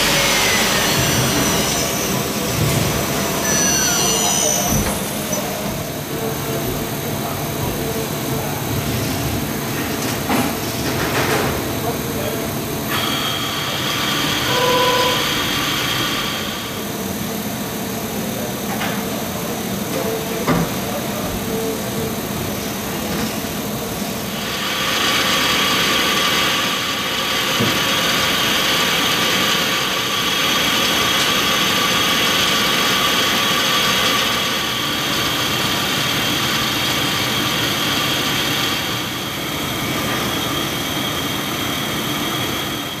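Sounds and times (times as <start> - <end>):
lathe humming and whining: 0.0 - 43.0.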